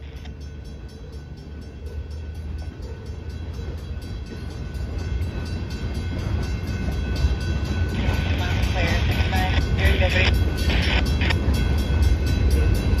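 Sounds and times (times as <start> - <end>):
crossing warning bell ringing: 0.0 - 13.0
freight train rumbling: 0.0 - 13.0.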